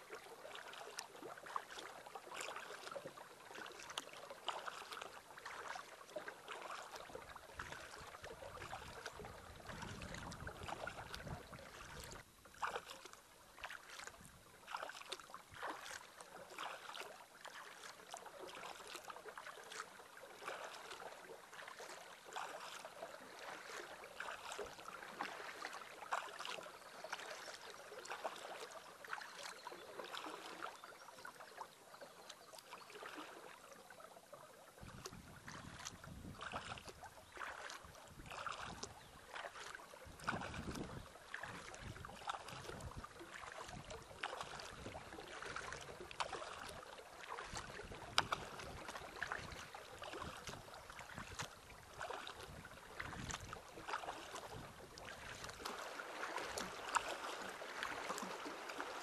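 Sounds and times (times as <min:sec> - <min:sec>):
paddle strokes in water: 0:00.0 - 0:59.0
small splashes and drips: 0:00.0 - 0:59.0
soft watery wash: 0:00.0 - 0:59.0.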